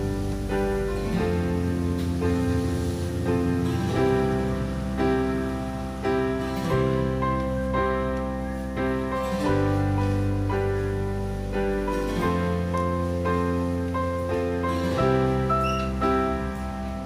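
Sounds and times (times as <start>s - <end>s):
piano chords over bass: 0.0s - 17.0s.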